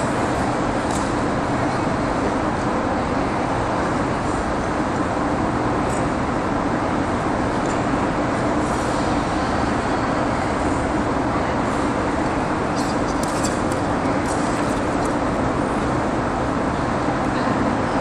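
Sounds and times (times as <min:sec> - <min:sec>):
air-handling machinery hum: 0:00.0 - 0:18.0.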